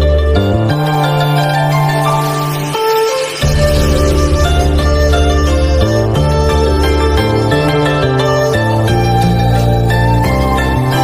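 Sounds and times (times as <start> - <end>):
background music sustained tones: 0.0 - 11.0.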